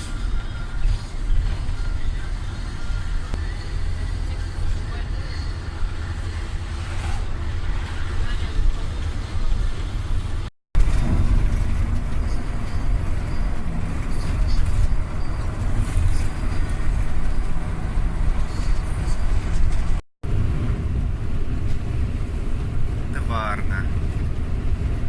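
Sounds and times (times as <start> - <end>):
car driving on road: 0.0 - 25.0.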